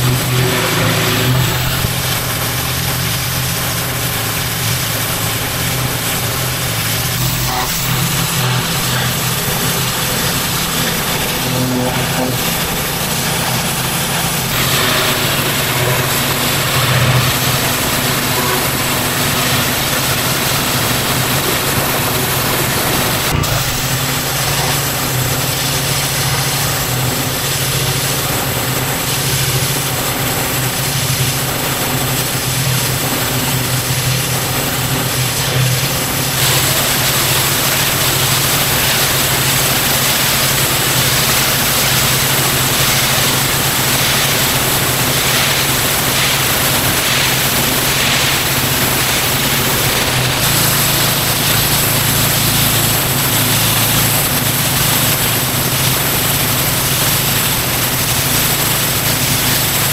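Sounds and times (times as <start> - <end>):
pressure washer engine running: 0.0 - 59.9
pressure washer hiss: 0.0 - 59.9.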